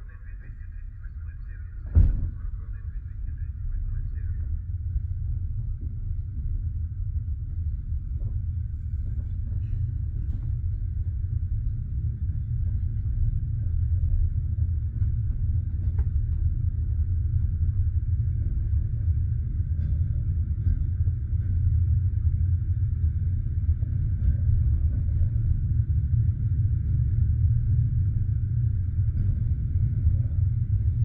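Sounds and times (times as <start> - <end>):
railway carriage rumble: 0.0 - 31.0.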